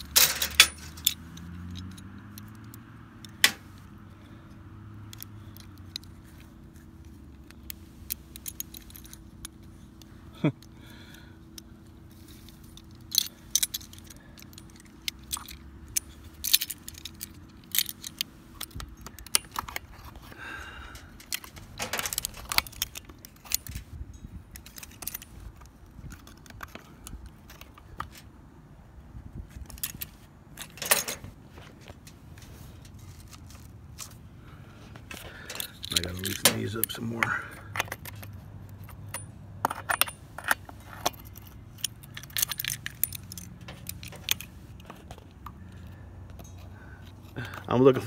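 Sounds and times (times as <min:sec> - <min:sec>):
metal multitool clicking and jangling: 0:00.0 - 0:20.4, 0:21.0 - 0:28.2, 0:29.5 - 0:31.2, 0:35.1 - 0:48.0.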